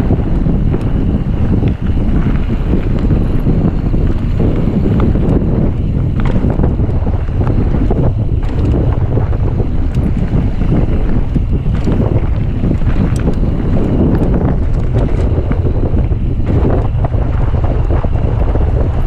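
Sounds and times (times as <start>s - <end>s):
bike rattles and knocks: 0.0s - 19.0s
tyres rumbling on dirt: 0.0s - 19.0s
wind buffeting microphone: 0.0s - 19.0s.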